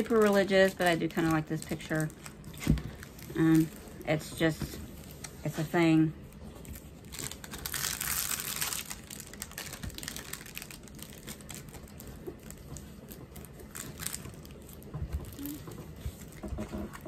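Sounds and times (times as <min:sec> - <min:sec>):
plastic film rustling: 0:00.0 - 0:17.0.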